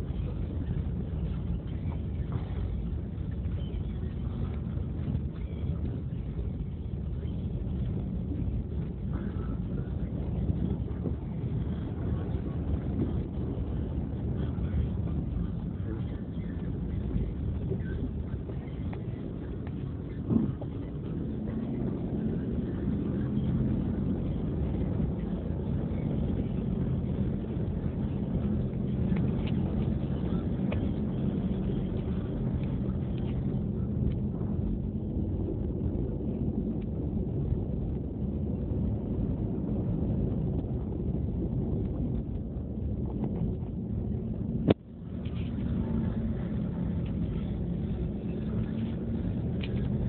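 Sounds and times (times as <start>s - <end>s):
car engine hum: 0.0s - 50.0s
road noise: 0.0s - 50.0s.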